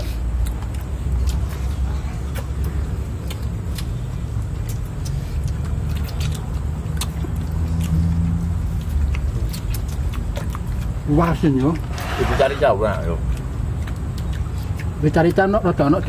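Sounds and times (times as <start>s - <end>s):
chewing and lip-smacking: 0.0s - 16.0s
vehicle engine rumbling: 0.0s - 16.0s.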